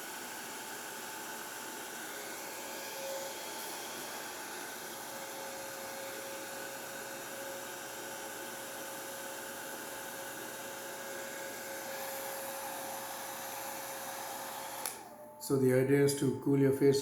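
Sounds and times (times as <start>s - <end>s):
hair dryer running: 0.0s - 15.6s.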